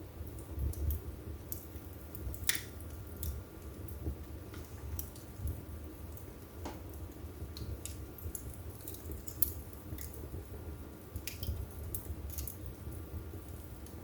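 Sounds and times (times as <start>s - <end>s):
burning wood crackling: 0.0s - 14.0s
low rumble of flames: 0.0s - 14.0s.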